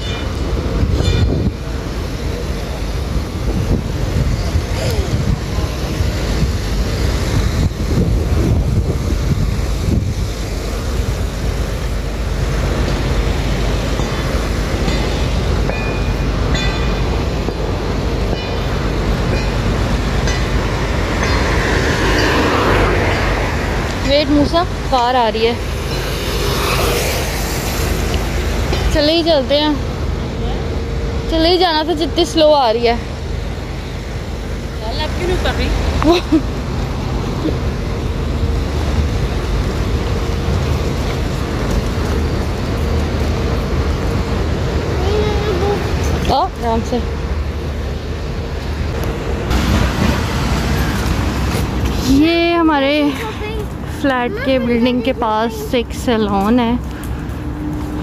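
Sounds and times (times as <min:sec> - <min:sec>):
car approaching: 0:00.0 - 0:58.0
street traffic rumble: 0:00.0 - 0:58.0.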